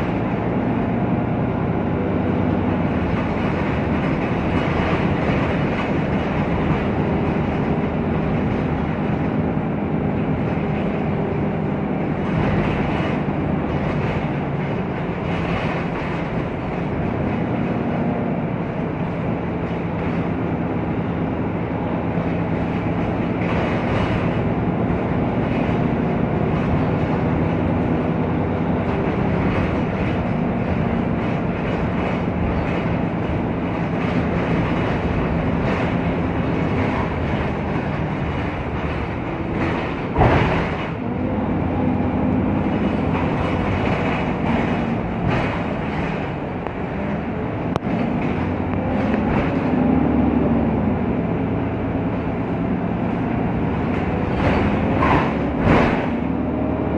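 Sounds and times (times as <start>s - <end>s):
bus body rattling: 0.0s - 56.9s
bus engine drone: 0.0s - 56.9s
road noise: 0.0s - 56.9s.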